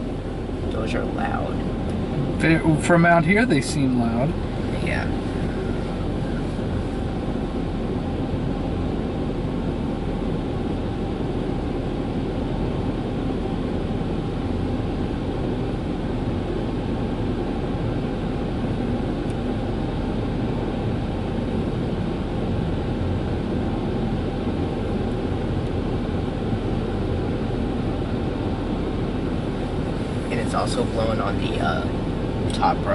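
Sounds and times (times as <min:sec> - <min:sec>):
car wash dryer blowers rushing: 0:00.0 - 0:32.9.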